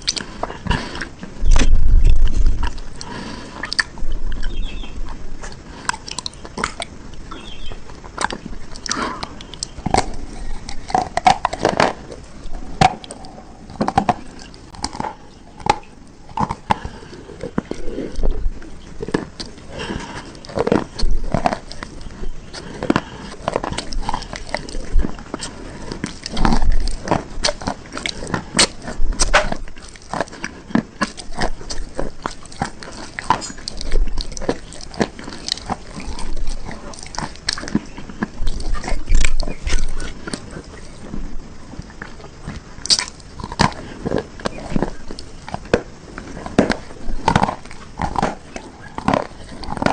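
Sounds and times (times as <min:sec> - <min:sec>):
person chewing: 0:00.0 - 0:49.9
person crunching hard bars: 0:00.0 - 0:49.9.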